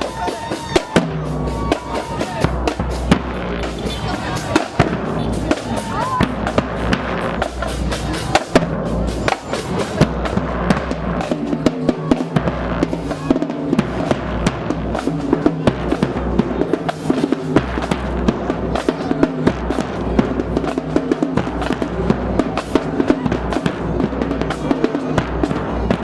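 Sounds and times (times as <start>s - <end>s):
drumline bass drums and snares: 0.0s - 26.0s.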